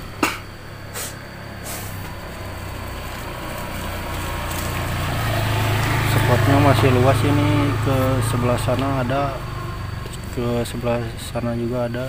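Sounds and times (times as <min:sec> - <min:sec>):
motor scooter engine hum: 0:00.0 - 0:12.0.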